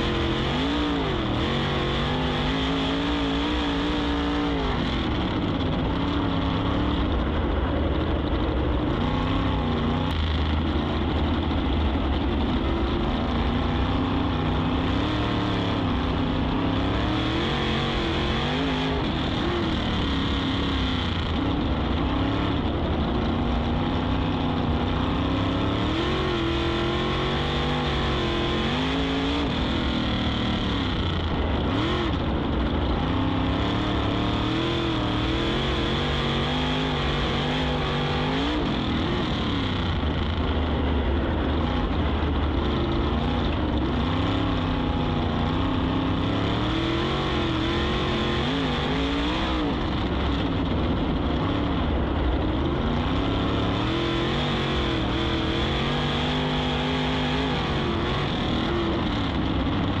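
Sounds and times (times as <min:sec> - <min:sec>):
race car engine at speed: 0:00.0 - 1:00.0.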